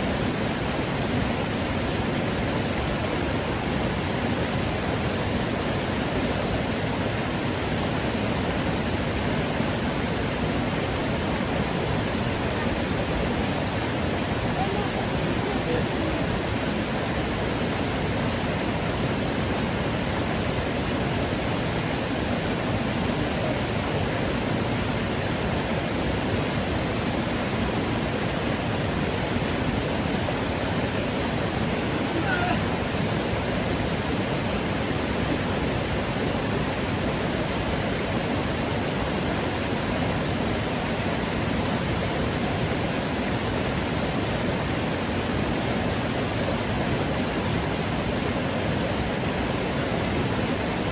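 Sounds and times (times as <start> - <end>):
stream water flowing over rocks: 0.0 - 50.9.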